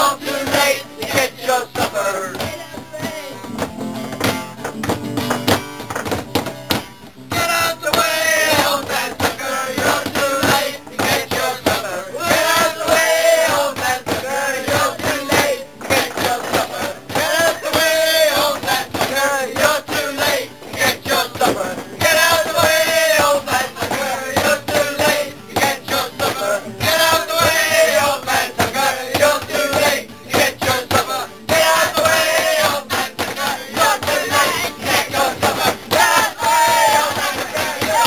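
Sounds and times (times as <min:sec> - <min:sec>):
group of people singing: 0:00.0 - 0:03.5, 0:07.3 - 0:38.0.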